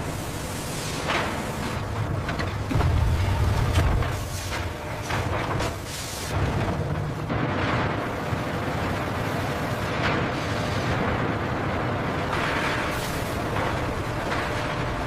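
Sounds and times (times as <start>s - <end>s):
industrial rumbling with hiss: 0.0s - 15.0s.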